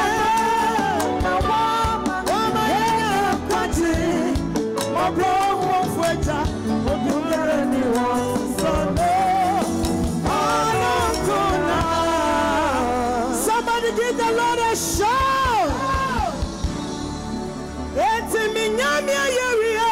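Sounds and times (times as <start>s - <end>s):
woman singing into a microphone: 0.0s - 16.5s
live band with bass and drums: 0.0s - 19.9s.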